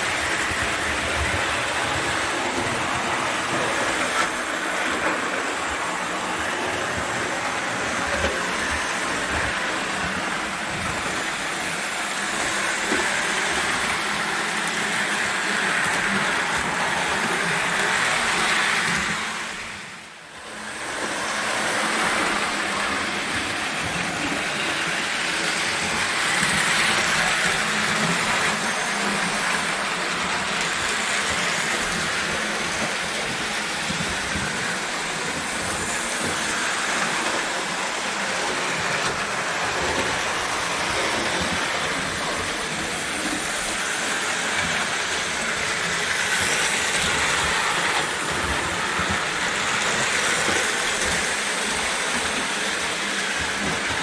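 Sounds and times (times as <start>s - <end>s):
toy train motor whirring: 0.0s - 54.0s.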